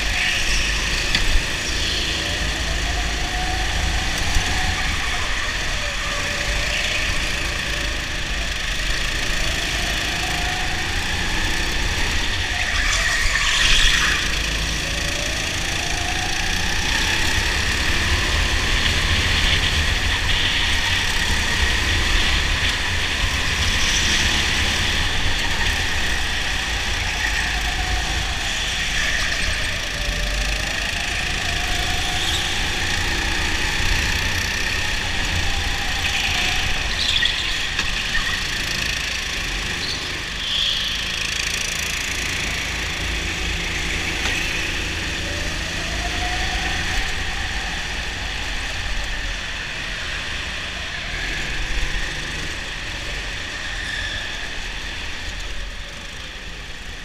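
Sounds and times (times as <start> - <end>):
go-kart motor revving: 0.0 - 57.0.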